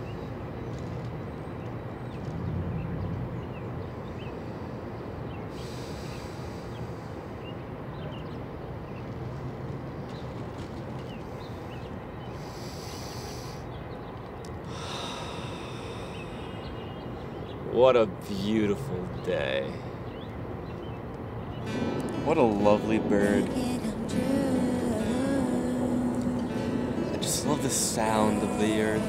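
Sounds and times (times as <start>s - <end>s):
low rumble and rushing hiss: 0.0s - 29.0s.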